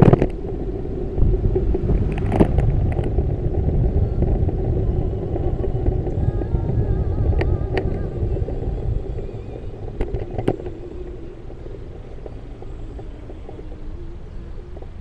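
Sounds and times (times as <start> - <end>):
faint wavering hum: 0.0 - 15.0
low rumble: 0.0 - 15.0.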